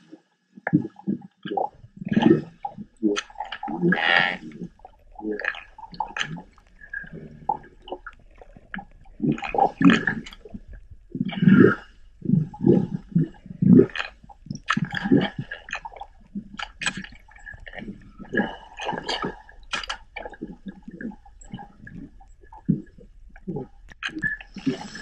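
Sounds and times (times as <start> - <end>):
underwater gurgling and knocking: 0.6 - 25.0.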